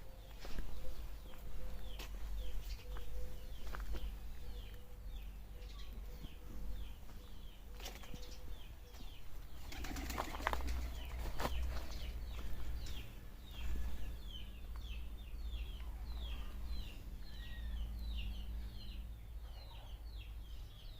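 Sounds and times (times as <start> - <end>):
bird chirping: 0.0 - 20.9.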